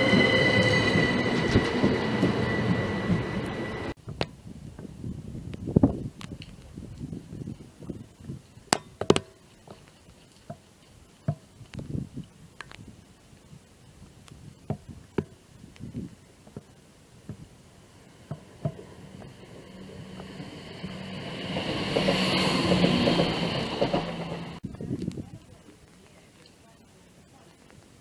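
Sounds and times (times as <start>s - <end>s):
wind rumbling on microphone: 0.0s - 8.8s, 10.9s - 26.2s.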